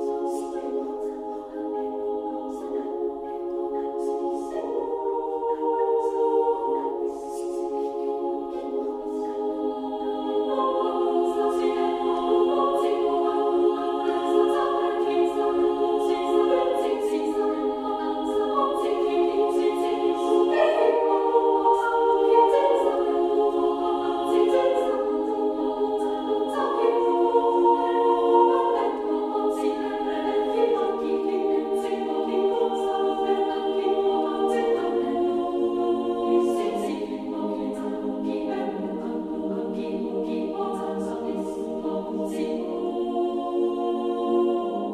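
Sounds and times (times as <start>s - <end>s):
choir singing held chords: 0.0s - 44.9s.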